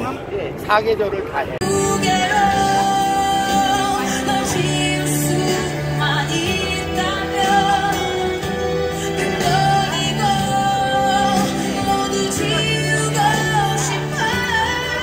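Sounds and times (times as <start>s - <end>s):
instrumental backing: 1.6s - 15.0s
person singing: 1.6s - 15.0s.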